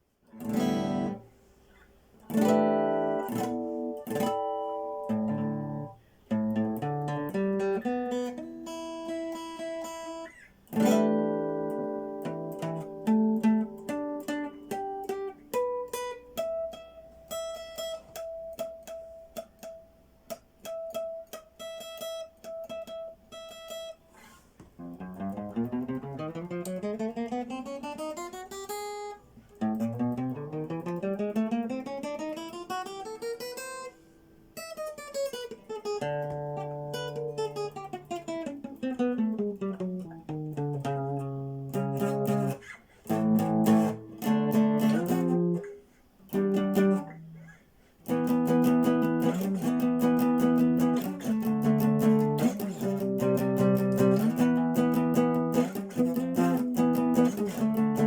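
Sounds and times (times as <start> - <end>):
acoustic guitar picking: 0.3 - 58.0.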